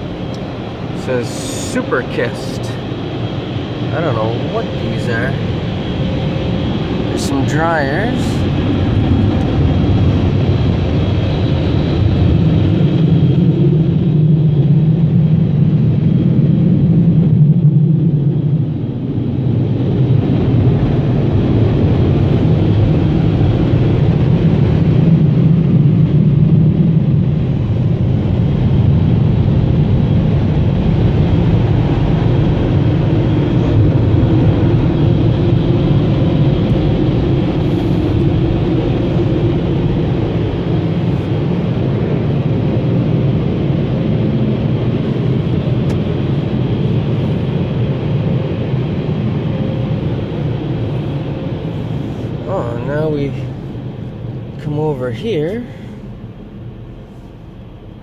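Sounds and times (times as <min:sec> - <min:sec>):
blower dryers rumbling: 0:00.0 - 0:58.0.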